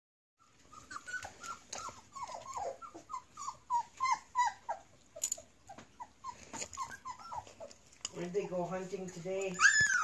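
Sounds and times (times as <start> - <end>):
puppies whimpering: 0.4 - 10.0.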